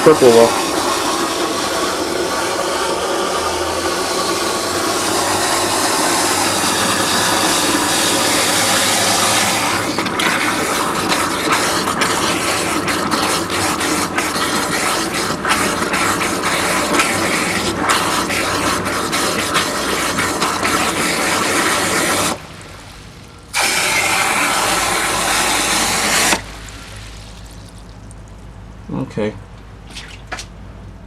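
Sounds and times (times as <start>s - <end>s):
water filling toilet tank: 0.0s - 28.3s.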